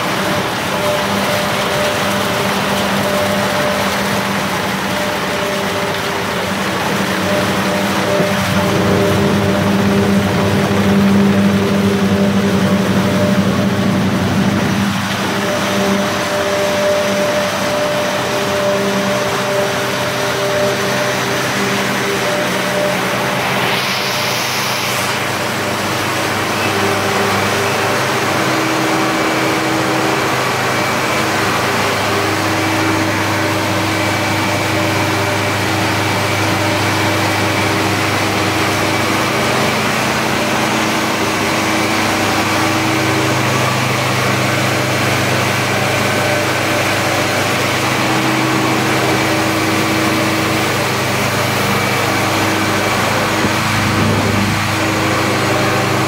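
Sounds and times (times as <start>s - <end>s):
machinery humming: 0.0s - 56.0s.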